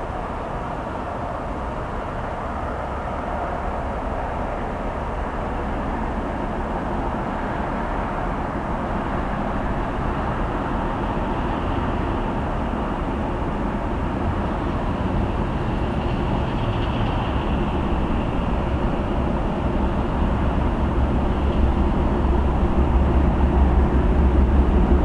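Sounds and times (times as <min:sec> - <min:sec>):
diesel locomotive engines droning: 0:00.0 - 0:25.0.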